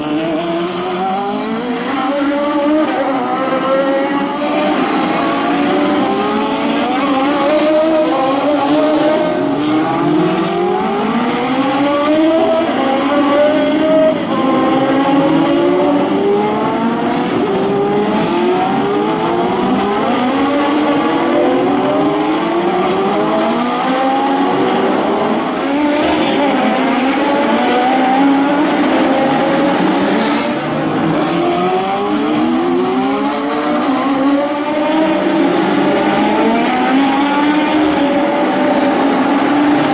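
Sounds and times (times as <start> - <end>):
racing car engines at full throttle: 0.0 - 39.9.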